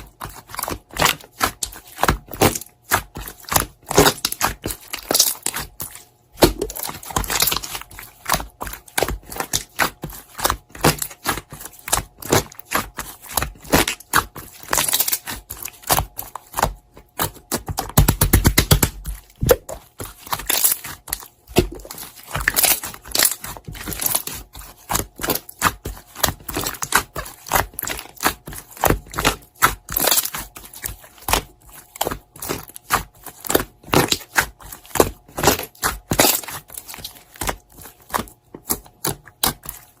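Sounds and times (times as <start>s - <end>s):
deep slime squelch: 0.0s - 40.0s
slime squishing: 0.0s - 40.0s.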